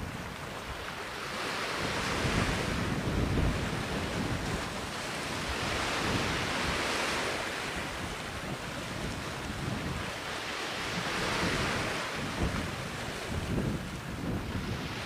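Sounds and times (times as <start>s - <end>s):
waves breaking: 0.0s - 15.0s
wind buffeting microphone: 0.0s - 15.0s.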